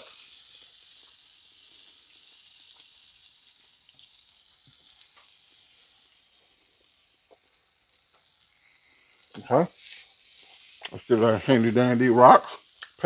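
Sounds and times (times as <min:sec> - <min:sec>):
butter sizzling in a frying pan: 0:00.0 - 0:13.0.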